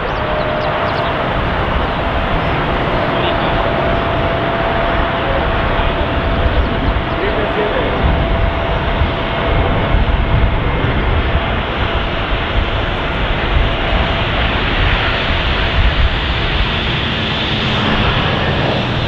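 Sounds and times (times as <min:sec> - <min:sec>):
faint high whine: 0:00.0 - 0:19.0
jet engines rushing: 0:00.0 - 0:19.0
wind buffeting microphone: 0:00.0 - 0:19.0.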